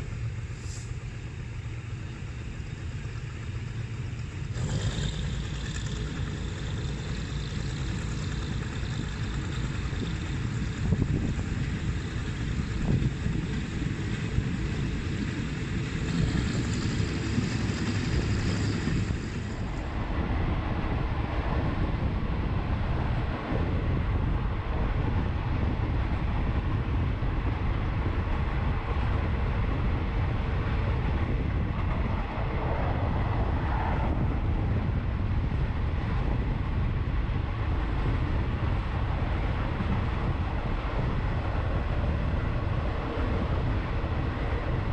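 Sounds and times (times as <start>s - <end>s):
train rumbling: 0.0s - 44.9s
wind buffeting microphone: 0.0s - 44.9s.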